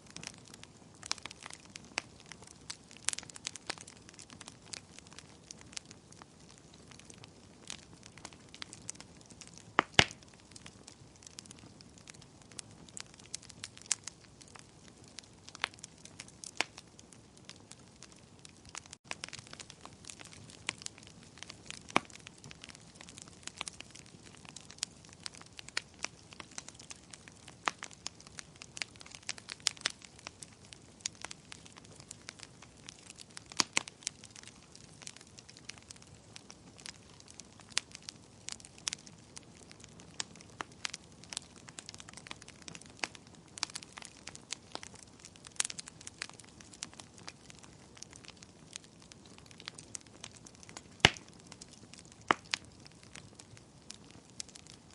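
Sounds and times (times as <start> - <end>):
fire crackling and popping: 0.0 - 54.9
soft steady hiss: 0.0 - 54.9.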